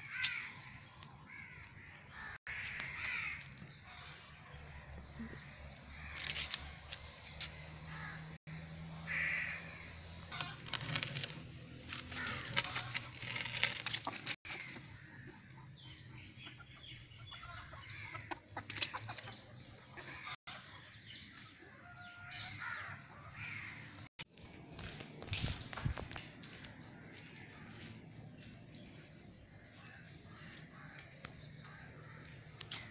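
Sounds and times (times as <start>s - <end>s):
birds calling: 0.0s - 32.9s.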